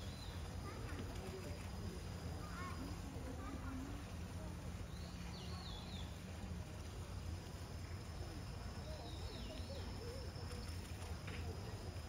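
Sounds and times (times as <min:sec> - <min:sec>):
faint distant voices: 0:00.0 - 0:12.0.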